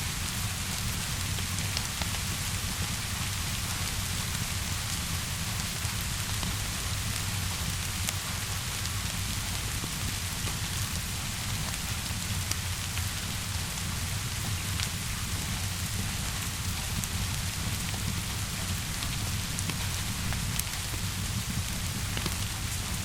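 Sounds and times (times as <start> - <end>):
rain falling: 0.1 - 23.0
wood fire crackling: 0.3 - 23.0.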